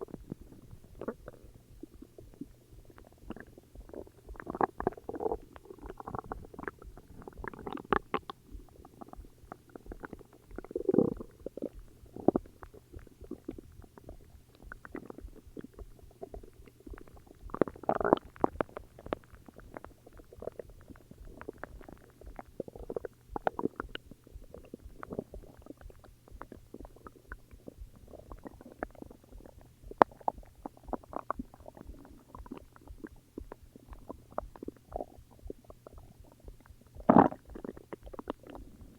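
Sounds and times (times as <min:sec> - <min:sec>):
stomach growling and gurgling: 0:00.0 - 0:38.9.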